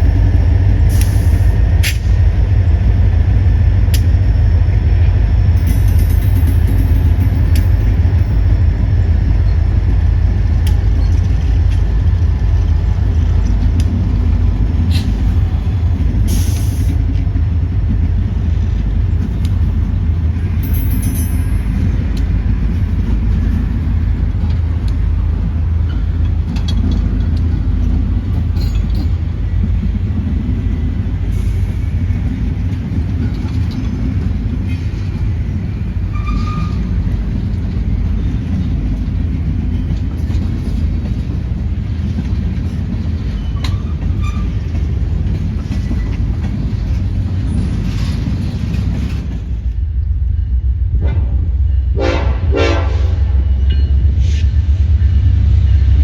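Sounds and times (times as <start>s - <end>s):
train wheels clicking: 0.0s - 2.7s, 5.4s - 49.8s
train rumbling past: 0.0s - 56.0s.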